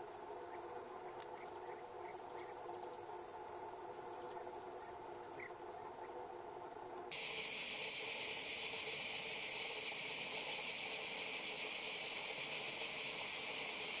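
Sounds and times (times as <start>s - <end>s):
cicadas chorus: 0.0s - 14.0s.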